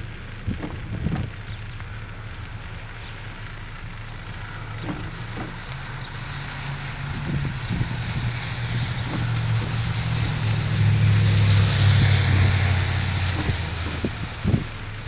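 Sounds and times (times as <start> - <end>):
rain hiss: 0.0 - 15.0
vehicle engine rumble: 0.0 - 15.0.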